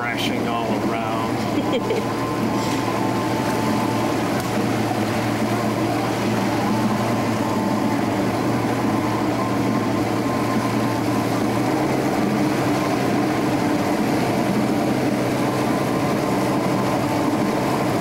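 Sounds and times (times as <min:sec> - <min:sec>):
outboard motor running: 0:00.0 - 0:18.0
water rushing from wake: 0:00.0 - 0:18.0.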